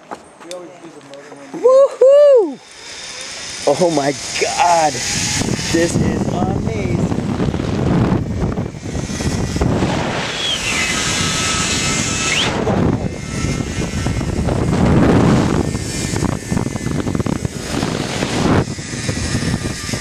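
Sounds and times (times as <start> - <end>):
zip-line pulley whine: 1.3 - 20.0
wind on microphone: 3.3 - 20.0.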